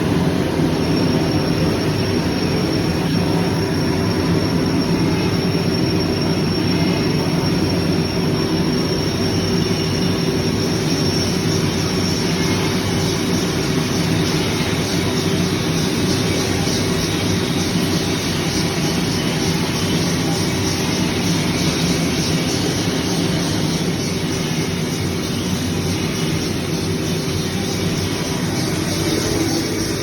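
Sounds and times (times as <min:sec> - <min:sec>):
cnc machine running: 0:00.0 - 0:30.0
thin high whine: 0:00.0 - 0:30.0.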